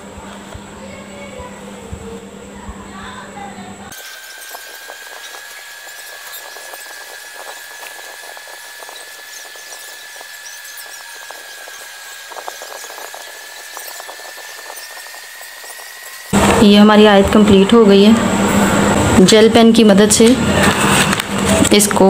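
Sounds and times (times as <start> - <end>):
steady high whine: 0.0 - 22.0.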